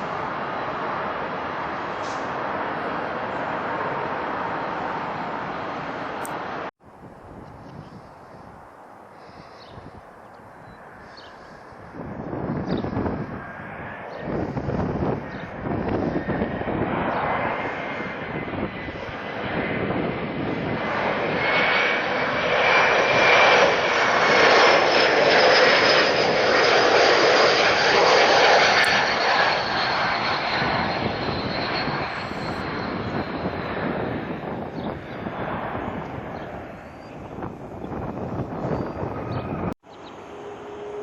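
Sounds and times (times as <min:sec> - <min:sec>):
high jet whine: 0:00.0 - 0:41.0
jet engines passing overhead: 0:00.0 - 0:41.0.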